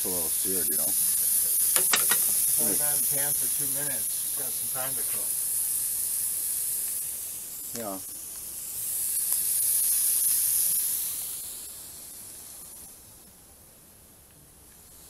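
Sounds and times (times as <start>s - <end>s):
food sizzling in a pan: 0.0s - 13.4s, 14.6s - 15.0s.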